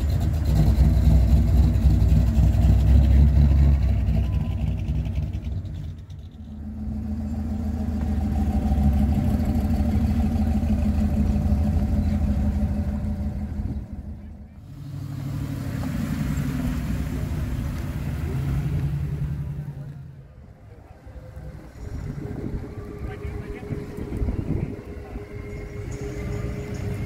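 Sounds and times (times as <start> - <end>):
pickup truck engines passing: 0.0 - 27.0.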